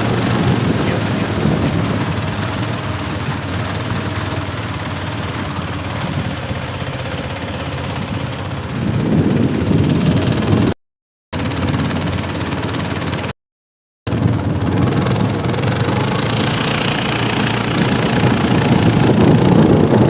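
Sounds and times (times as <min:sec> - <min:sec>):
boat engine running: 0:00.0 - 0:10.8, 0:11.4 - 0:13.4, 0:14.1 - 0:20.0.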